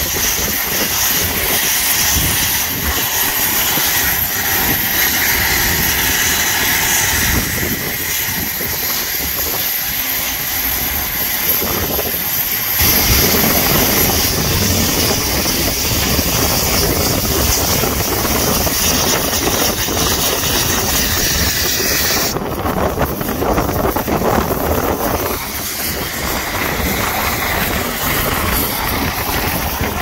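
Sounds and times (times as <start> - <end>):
locomotive rumbling slowly: 0.0 - 30.0
steam locomotive hissing steam: 0.0 - 30.0
wind noise: 0.0 - 30.0.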